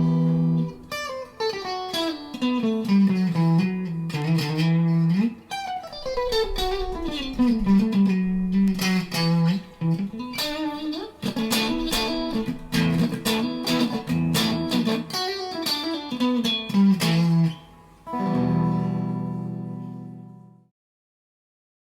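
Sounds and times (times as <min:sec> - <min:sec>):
electric guitar lead line: 0:00.0 - 0:20.6
guitar chord ringing: 0:00.0 - 0:20.6.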